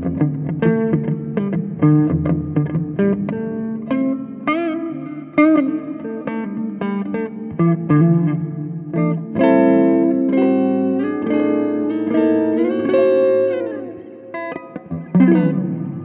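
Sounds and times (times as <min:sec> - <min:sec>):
clean electric guitar notes: 0:00.0 - 0:16.0.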